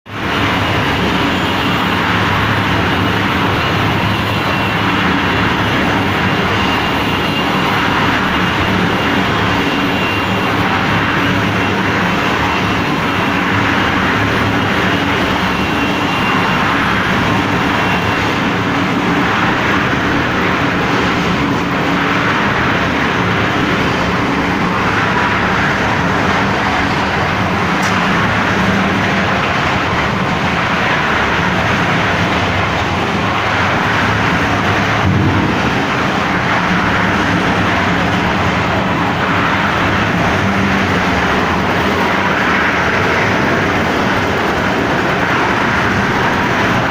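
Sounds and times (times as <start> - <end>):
concrete mixer engine running: 0.1 - 46.9.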